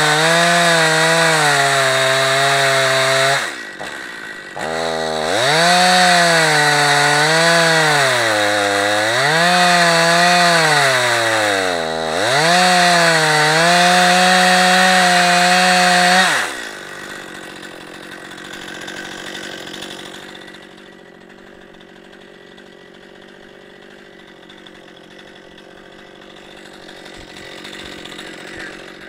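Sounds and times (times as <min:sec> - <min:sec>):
chainsaw cutting through log: 0:00.0 - 0:29.0.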